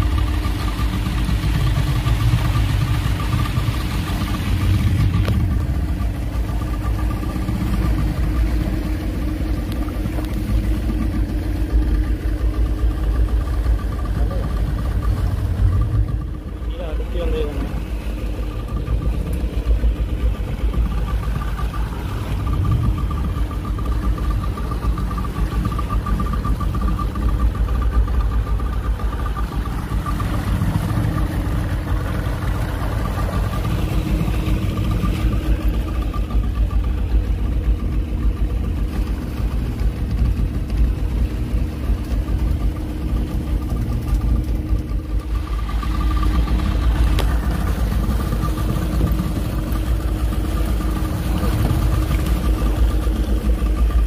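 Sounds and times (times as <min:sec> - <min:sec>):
outboard motor droning: 0:00.0 - 0:54.0
water rushing past hull: 0:00.0 - 0:54.0.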